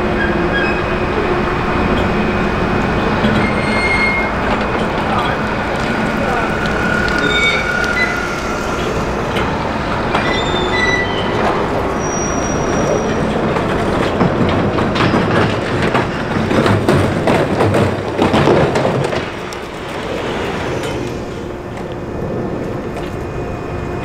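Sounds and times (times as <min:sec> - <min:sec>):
track squeaks: 0:00.0 - 0:23.6
low engine rumble: 0:00.0 - 0:24.0
track links clanking: 0:00.0 - 0:24.0.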